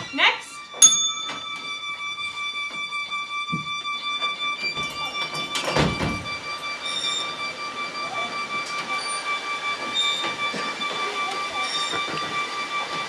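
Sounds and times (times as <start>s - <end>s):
violin holding high note: 0.0s - 13.0s.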